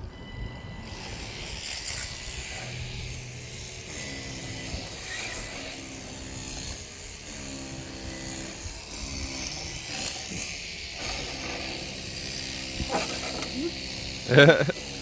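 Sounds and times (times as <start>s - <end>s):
toy car motor whining: 0.0s - 15.0s.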